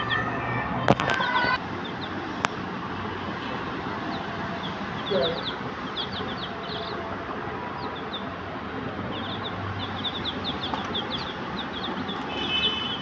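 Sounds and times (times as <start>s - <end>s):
chicks peeping: 0.9s - 13.0s.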